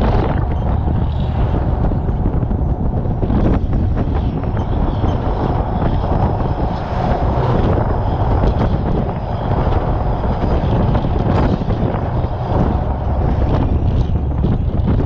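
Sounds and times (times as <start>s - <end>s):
empty trailer rumbling on road: 0.0s - 15.0s
wind rush on microphone: 0.0s - 15.0s.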